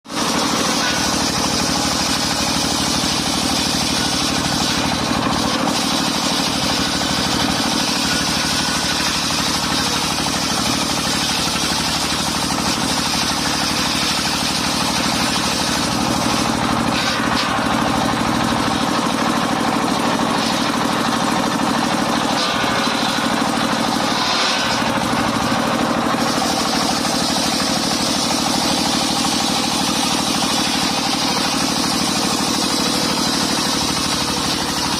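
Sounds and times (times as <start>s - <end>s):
sawmill engine running: 0.1s - 34.9s.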